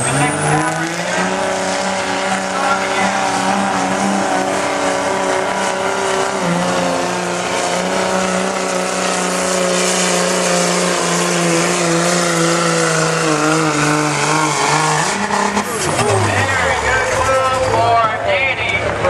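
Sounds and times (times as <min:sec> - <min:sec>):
diesel truck engine under load: 0:00.0 - 0:19.0.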